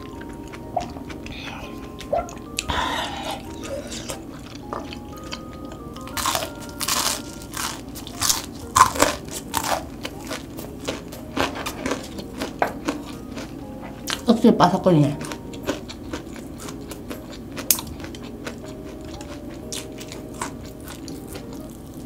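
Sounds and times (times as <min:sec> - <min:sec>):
crunching of fried food being chewed: 0:00.0 - 0:14.3, 0:15.2 - 0:22.0.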